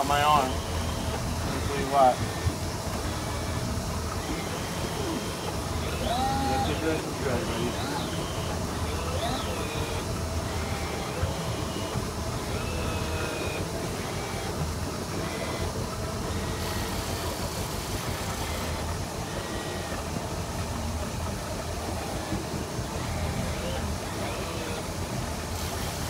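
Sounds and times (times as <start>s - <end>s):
boat engine rumbling: 0.0s - 26.0s
water noise: 0.0s - 26.0s
wind: 0.0s - 26.0s.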